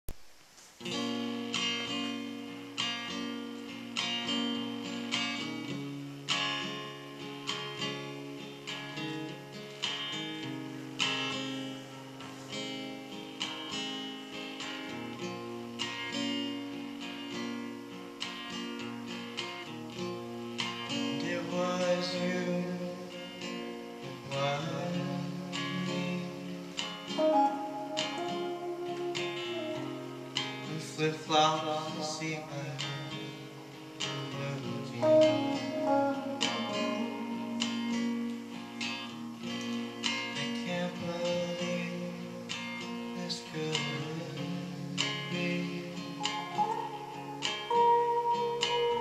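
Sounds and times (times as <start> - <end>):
acoustic guitar strumming chords: 0.1 - 49.0
electric guitar playing: 0.8 - 49.0.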